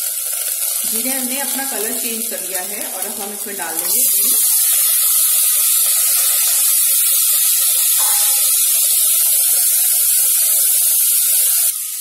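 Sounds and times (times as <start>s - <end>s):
beans sizzling in hot oil: 0.0s - 12.0s.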